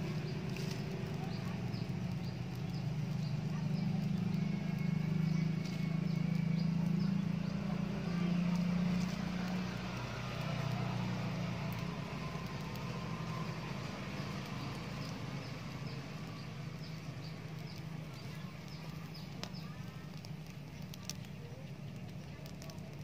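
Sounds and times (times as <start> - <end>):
palm fronds burning crackling: 0.0 - 23.0
steady low hum: 0.0 - 23.0.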